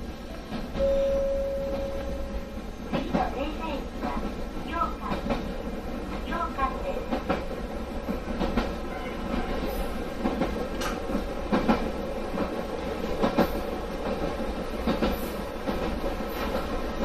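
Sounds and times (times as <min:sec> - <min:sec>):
train running noise: 0:00.0 - 0:17.0.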